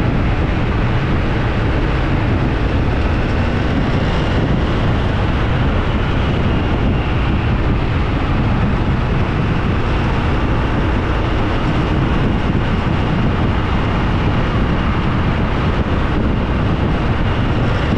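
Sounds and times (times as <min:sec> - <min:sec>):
vehicle rumble: 0:00.0 - 0:17.9.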